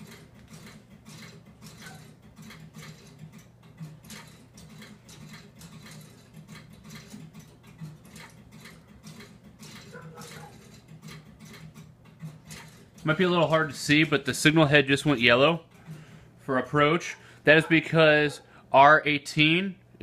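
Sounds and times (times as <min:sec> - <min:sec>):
relay equipment clicking: 0:00.0 - 0:16.2.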